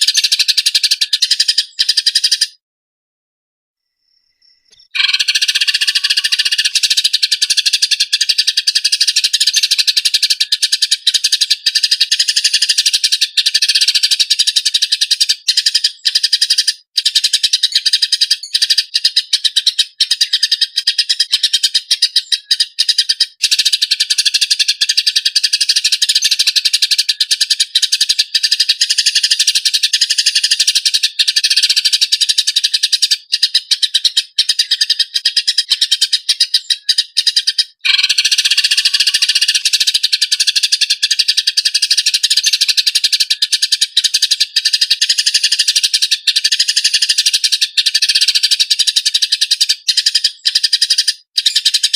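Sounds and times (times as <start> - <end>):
sparrows chirping harshly: 0.0 - 2.6, 3.9 - 51.9.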